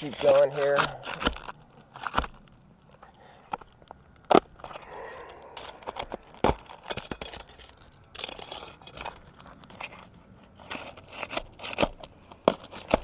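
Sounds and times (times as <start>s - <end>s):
shingles scraping and crunching: 0.0s - 13.0s.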